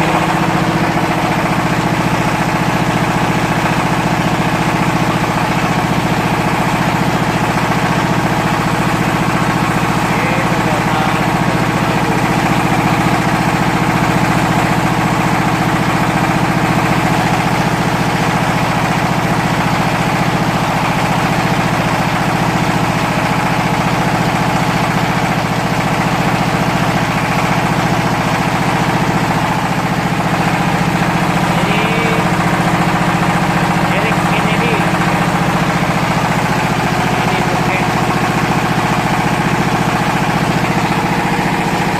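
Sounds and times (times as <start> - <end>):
pellet machine drone: 0.0 - 41.9.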